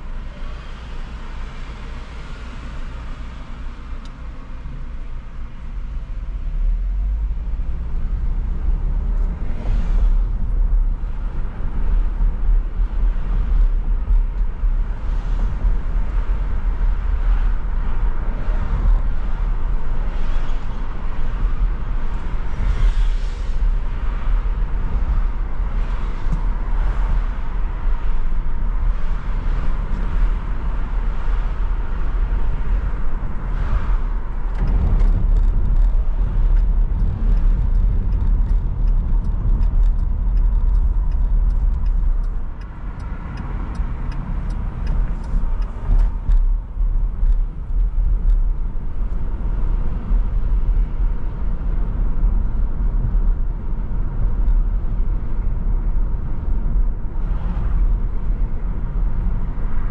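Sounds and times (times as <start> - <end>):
car road rumble and tyre noise: 0.0 - 59.9.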